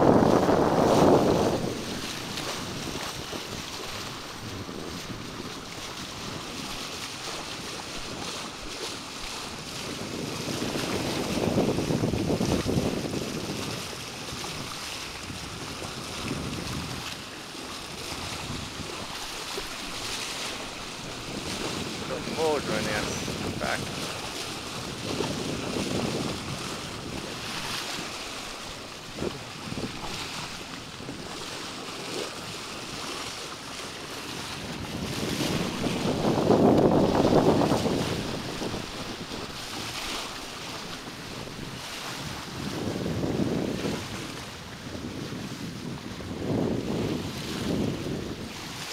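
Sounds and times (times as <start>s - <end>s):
water rushing along a bow: 0.0s - 48.9s
wind buffeting microphone: 0.0s - 48.9s.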